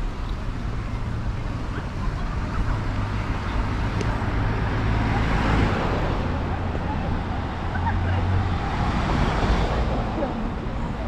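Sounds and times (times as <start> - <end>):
faint voices: 0.0 - 11.0
low street rumble: 0.0 - 11.0.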